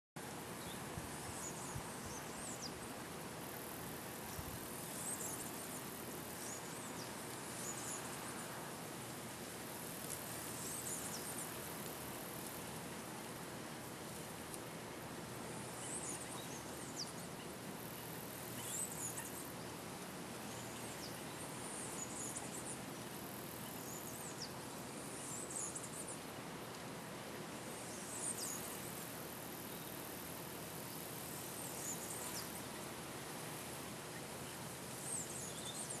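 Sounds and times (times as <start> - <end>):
outdoor background hiss: 0.2 - 36.0.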